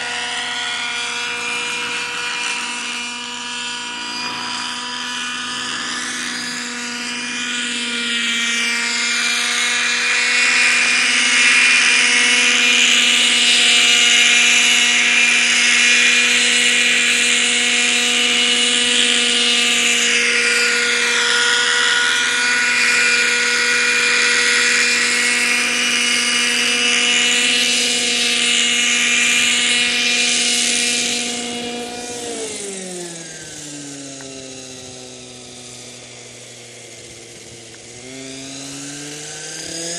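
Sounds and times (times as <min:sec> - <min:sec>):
model helicopter engine and rotors: 0:00.0 - 0:39.9.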